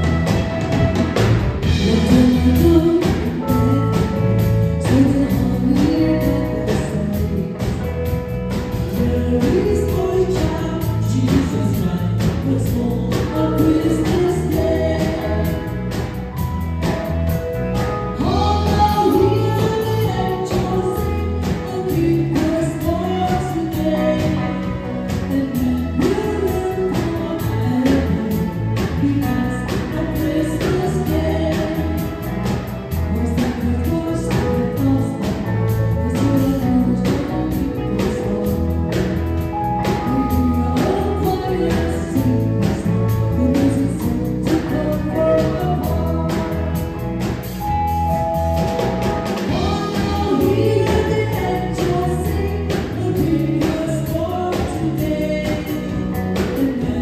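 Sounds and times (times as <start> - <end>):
live band playing: 0.0 - 57.0
women singing: 1.6 - 7.9, 8.8 - 16.2, 18.1 - 47.0, 49.4 - 57.0.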